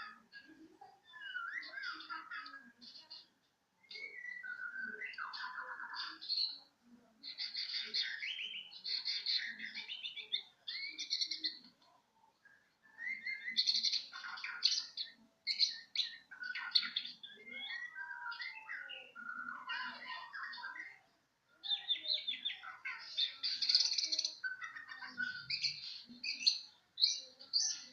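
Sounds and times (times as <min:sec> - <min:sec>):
songbird chattering: 0:01.1 - 0:11.7, 0:12.4 - 0:21.0, 0:21.6 - 0:27.9.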